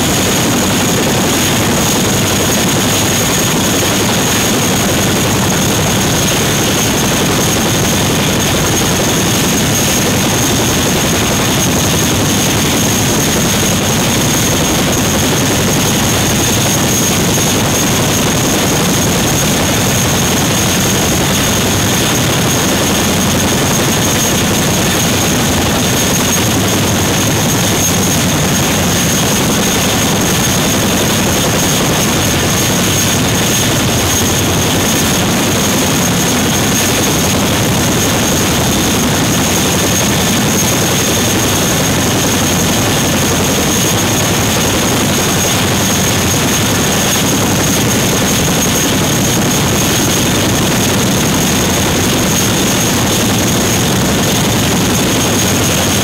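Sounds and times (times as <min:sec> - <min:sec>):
helicopter rotor rush: 0:00.0 - 0:56.0
high turbine whine: 0:00.0 - 0:56.0.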